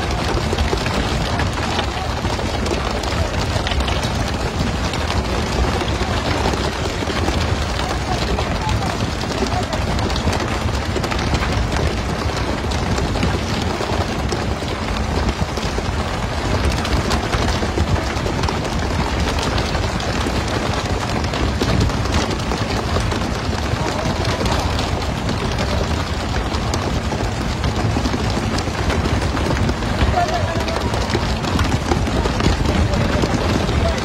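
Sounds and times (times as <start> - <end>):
low engine rumble: 0.0 - 34.0.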